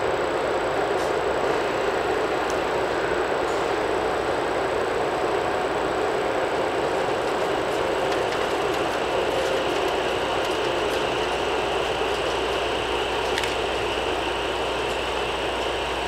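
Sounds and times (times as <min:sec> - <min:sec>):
train rolling noise: 0:00.0 - 0:16.0.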